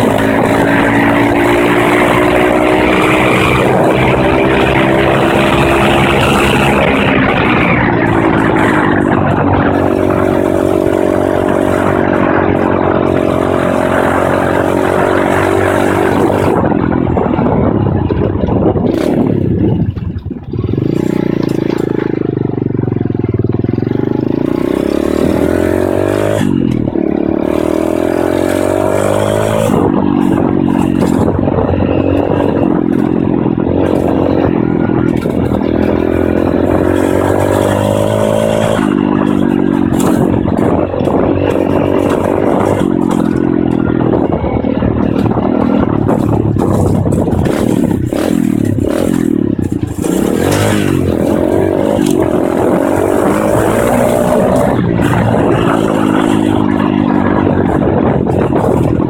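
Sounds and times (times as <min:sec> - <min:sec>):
motorbike engine accelerating: 0:00.0 - 0:59.0.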